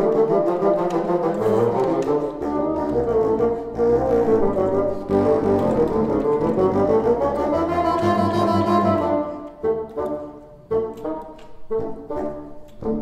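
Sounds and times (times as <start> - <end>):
bassoon and contrabassoon duet: 0.0 - 13.0.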